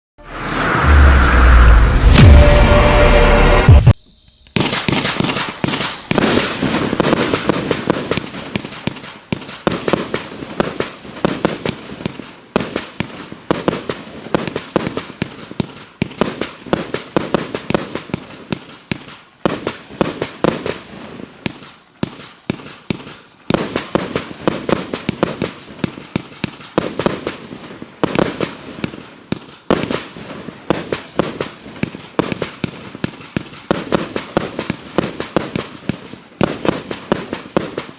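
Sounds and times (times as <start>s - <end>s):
fireworks firing in rapid series: 0.4s - 37.9s.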